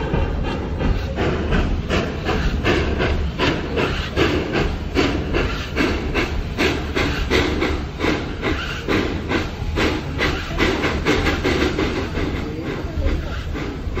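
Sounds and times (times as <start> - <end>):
low rumble of train: 0.0 - 14.0
steam locomotive chuffing: 0.0 - 14.0.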